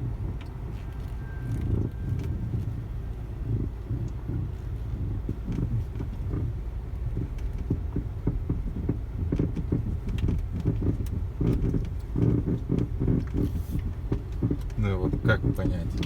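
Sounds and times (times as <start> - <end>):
low road rumble: 0.0 - 16.0
suspension crunching clicks: 0.0 - 16.0.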